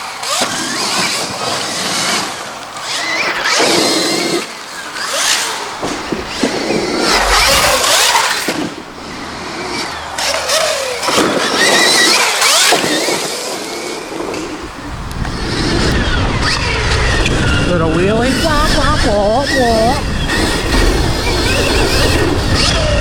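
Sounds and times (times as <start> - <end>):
wind and tyre noise: 0.0 - 23.0
electric motor whining: 0.1 - 23.0.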